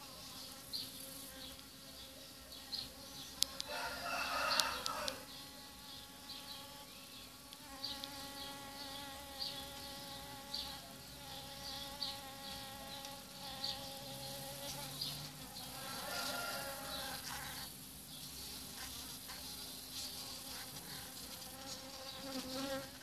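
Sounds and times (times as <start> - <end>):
honeybee buzzing: 0.0 - 23.0.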